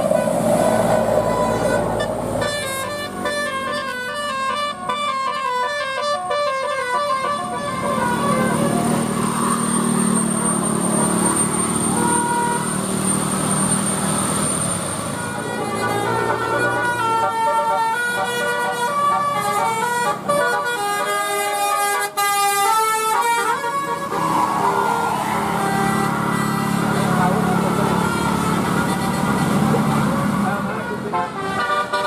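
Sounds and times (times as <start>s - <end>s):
multi-tone musical bus horn: 0.0s - 13.6s, 14.8s - 32.0s
vehicle and street rumble: 0.0s - 32.0s.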